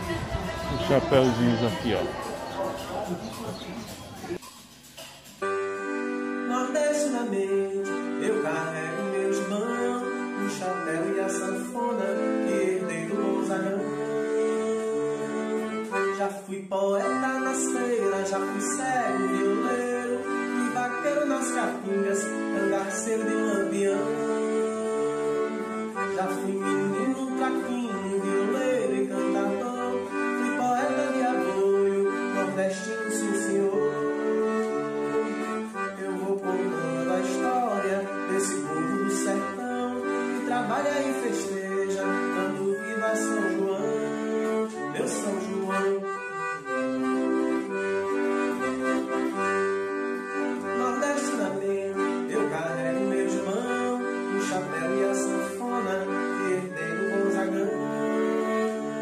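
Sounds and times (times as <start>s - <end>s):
accordion music: 0.0s - 59.0s.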